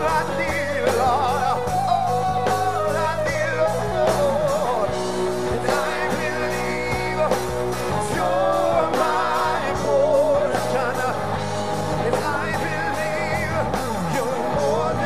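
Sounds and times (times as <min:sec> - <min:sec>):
bass guitar: 0:00.0 - 0:15.0
electric guitars: 0:00.0 - 0:15.0
man and woman singing: 0:00.0 - 0:15.0.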